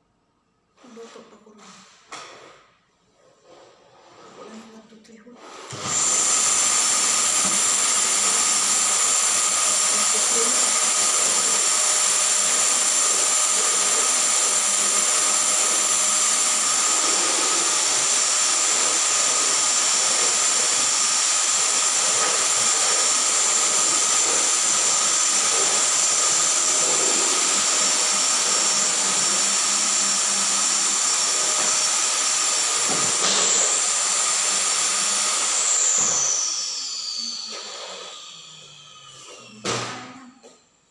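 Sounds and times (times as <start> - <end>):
vacuum cleaner running: 3.2 - 40.9.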